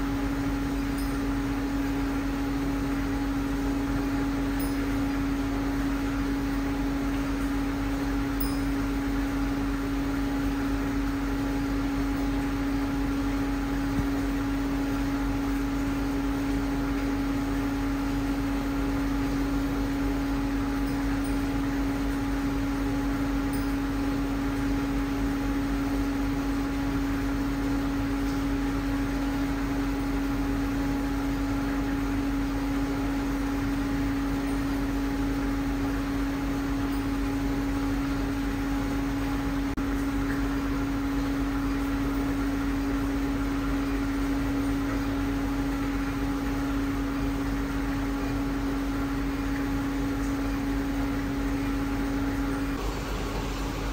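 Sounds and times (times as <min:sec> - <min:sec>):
furnace humming: 0:00.0 - 0:53.9.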